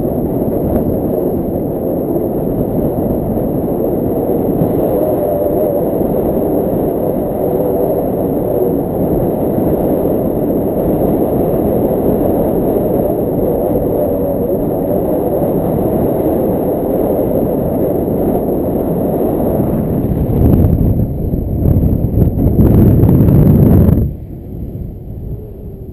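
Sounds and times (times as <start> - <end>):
wind rushing over microphone: 0.0 - 25.9.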